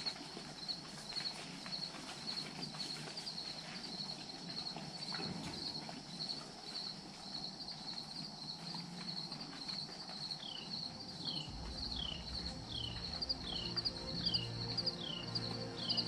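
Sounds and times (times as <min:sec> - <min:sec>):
insects chirping trill: 0:00.0 - 0:16.0.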